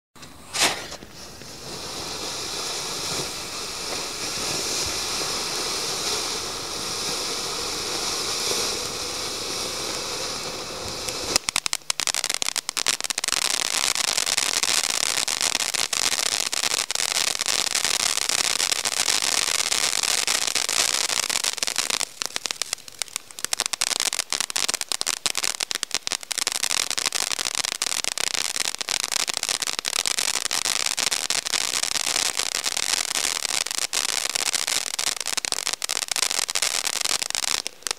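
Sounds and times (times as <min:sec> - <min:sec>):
crackling firework sparks: 0:00.2 - 0:37.9
firework fountain hissing: 0:00.2 - 0:37.9.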